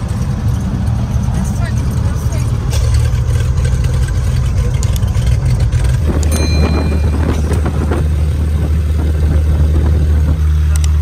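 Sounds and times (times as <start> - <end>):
propeller engine droning: 0.0 - 11.0.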